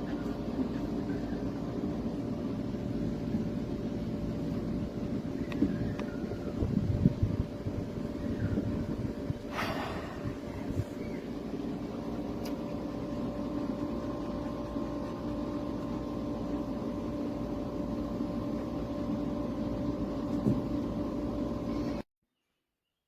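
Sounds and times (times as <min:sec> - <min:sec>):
small fan whirring: 0:00.0 - 0:22.0.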